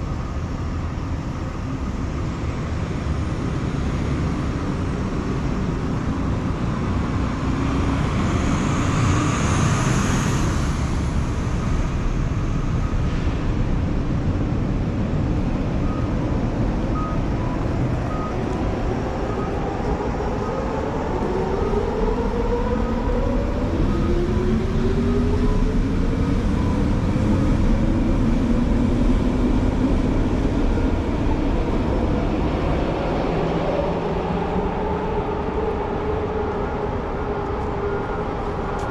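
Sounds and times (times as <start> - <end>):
accelerating vehicle whine: 0.0 - 38.9
city street traffic: 0.0 - 38.9.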